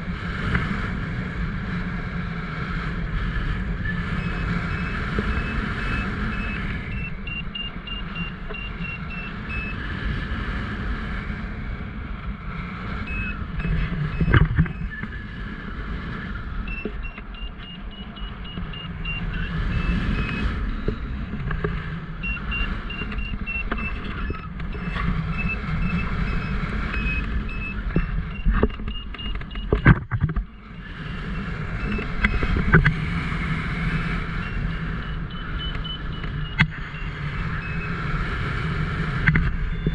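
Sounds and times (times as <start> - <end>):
wind buffeting microphone: 0.0 - 39.9
variometer beeping: 3.0 - 10.4, 12.2 - 39.9.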